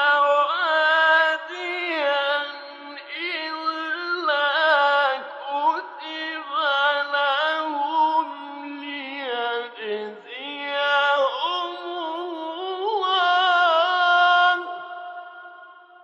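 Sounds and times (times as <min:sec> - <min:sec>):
man reciting in melodic chant: 0:00.0 - 0:16.0.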